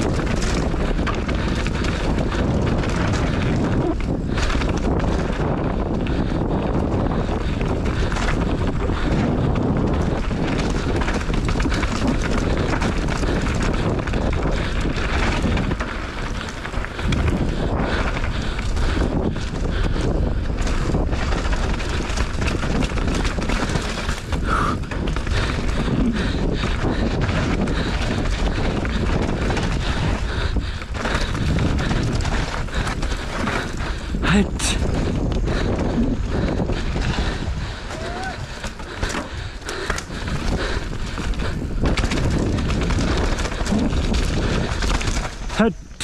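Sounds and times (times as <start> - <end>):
bike knocks and rattles: 0.0 - 45.7
wind rush over microphone: 0.0 - 46.0.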